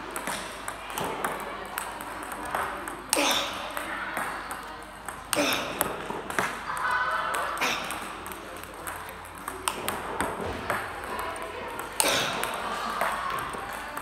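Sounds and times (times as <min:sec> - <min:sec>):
background chatter: 0:00.0 - 0:14.0
table tennis ball clicking: 0:00.1 - 0:14.0.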